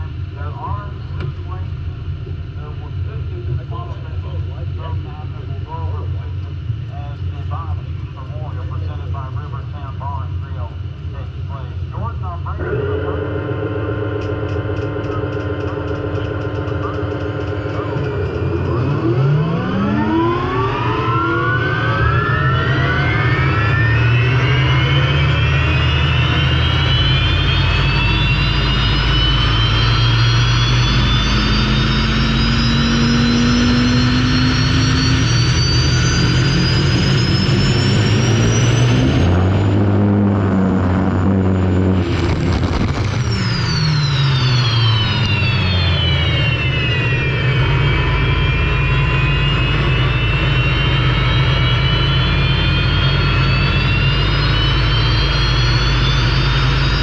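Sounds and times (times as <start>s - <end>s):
turbine engine whine: 0.0s - 57.0s.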